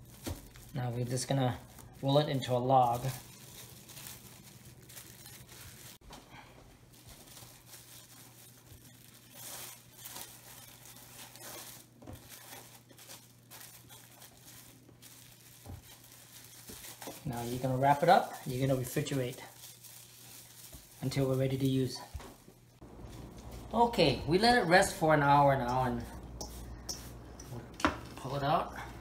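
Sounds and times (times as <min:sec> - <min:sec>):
plastic cling wrap crinkling: 0:00.0 - 0:29.0.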